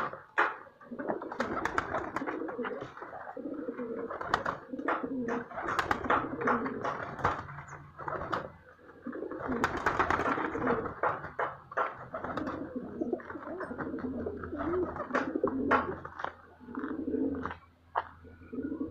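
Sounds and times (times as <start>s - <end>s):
pigeons cooing: 0.0s - 18.9s
wings fluttering: 1.1s - 16.9s.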